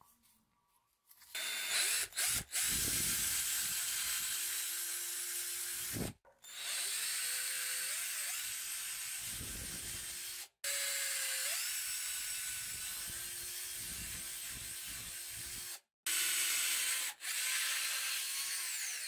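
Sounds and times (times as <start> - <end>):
cordless drill grinding metal: 1.3 - 19.0.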